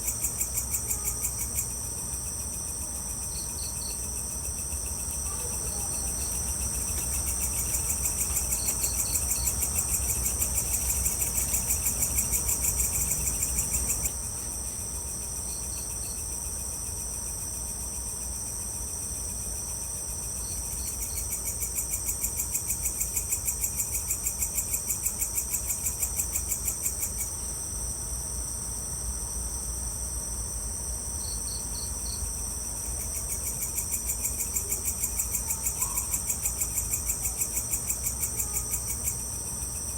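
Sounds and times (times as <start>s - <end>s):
insects trilling: 0.0s - 39.9s
lower loud insect trill: 0.0s - 39.9s.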